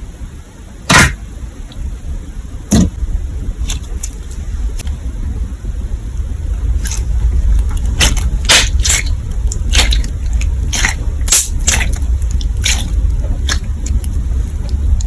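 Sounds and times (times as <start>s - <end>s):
low rumble: 1.2s - 15.0s.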